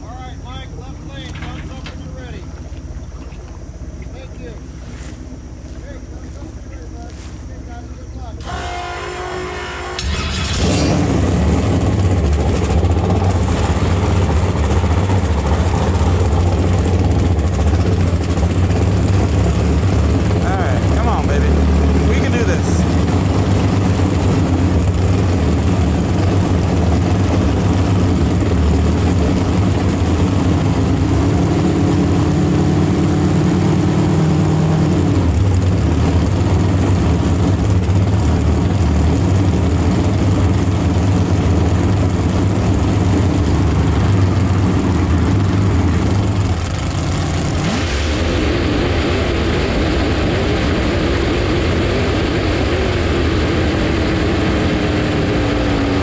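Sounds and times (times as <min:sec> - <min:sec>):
boat engine running loudly: 0:00.0 - 0:56.0.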